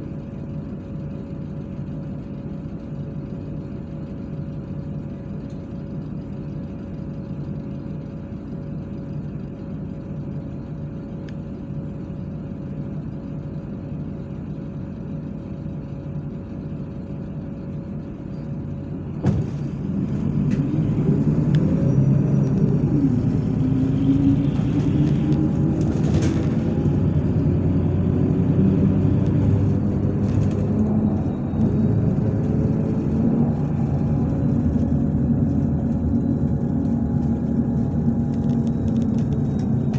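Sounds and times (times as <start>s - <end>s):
bus engine accelerating: 0.0s - 39.9s
bus engine idling with whine: 0.0s - 39.9s.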